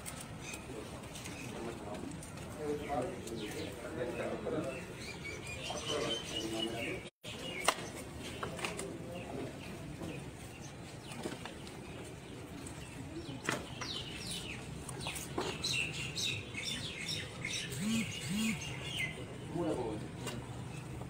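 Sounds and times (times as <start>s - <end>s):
small birds chirping: 2.6s - 20.9s.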